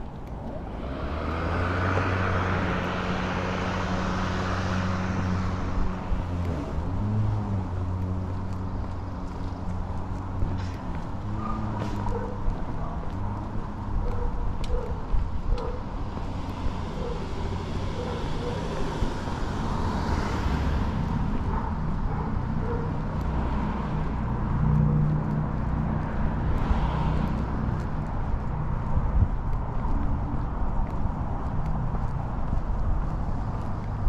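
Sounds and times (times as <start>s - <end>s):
car passing: 0.0s - 34.0s
traffic rumble: 0.0s - 34.0s.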